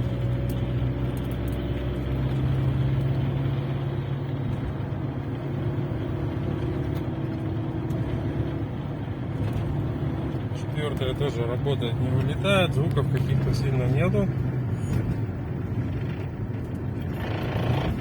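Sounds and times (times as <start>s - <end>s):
car engine and drivetrain hum: 0.0s - 18.0s.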